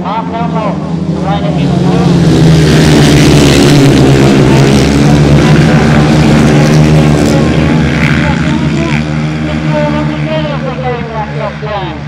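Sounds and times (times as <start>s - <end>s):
racing motorcycles running hard: 0.0s - 12.0s.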